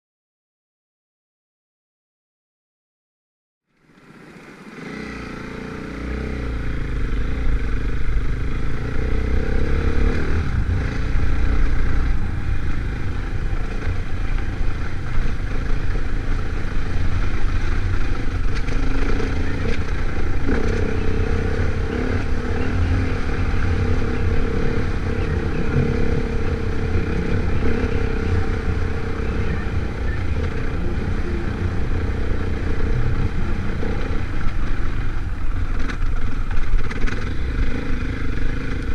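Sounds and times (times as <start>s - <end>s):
motorcycle engine running: 3.8s - 38.9s.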